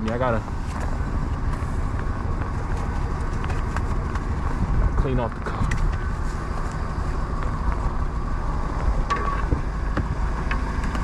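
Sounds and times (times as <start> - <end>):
car engine idling: 0.0 - 11.0
wind on microphone: 1.8 - 11.0.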